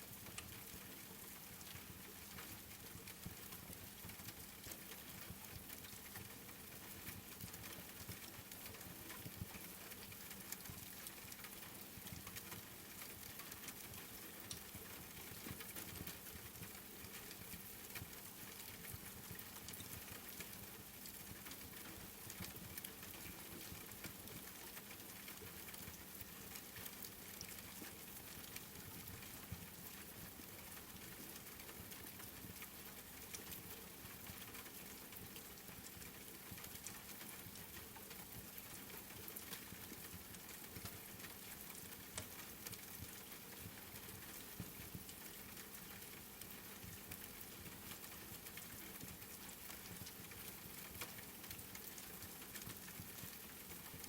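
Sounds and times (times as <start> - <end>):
rain pattering: 0.1 - 54.0.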